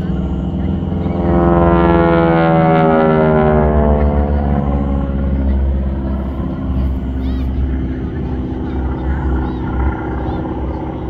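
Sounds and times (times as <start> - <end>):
propeller plane engine passing by: 0.0 - 11.0.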